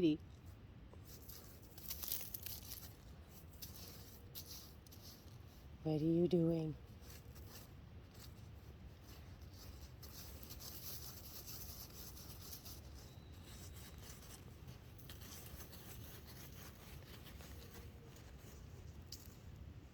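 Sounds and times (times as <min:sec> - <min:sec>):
puppy paws scratching soil: 0:00.0 - 0:19.9.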